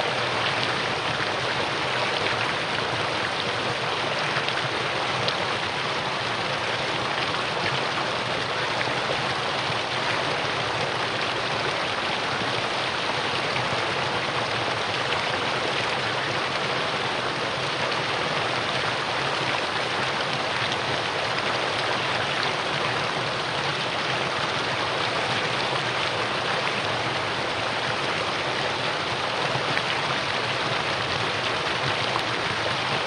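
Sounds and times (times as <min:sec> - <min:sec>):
stream running over rocks: 0:00.0 - 0:33.0.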